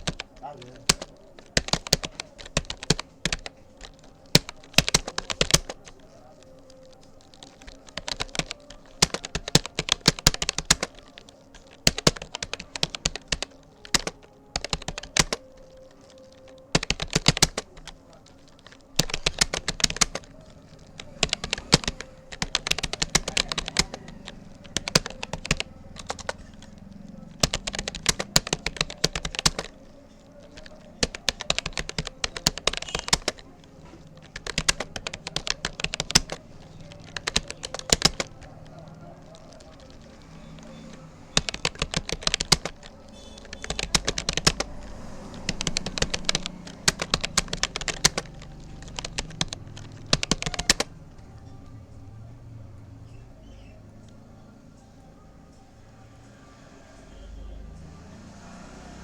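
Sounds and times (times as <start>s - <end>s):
keyboard typing clicks: 0.0s - 51.8s.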